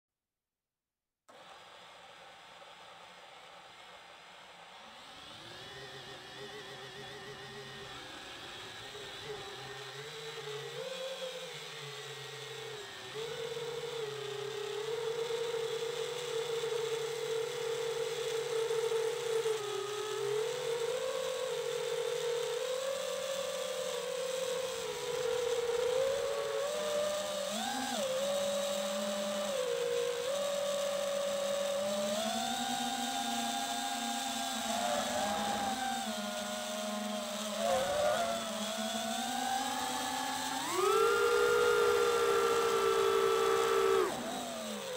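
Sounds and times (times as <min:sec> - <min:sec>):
quadcopter motors whining: 0:01.3 - 0:44.9.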